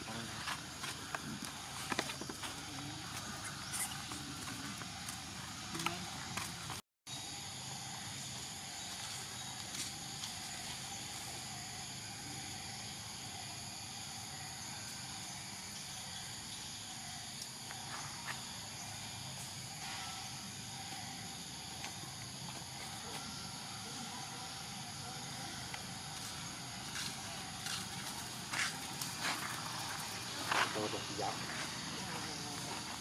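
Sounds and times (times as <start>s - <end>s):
insect chorus buzzing: 0.0s - 33.0s.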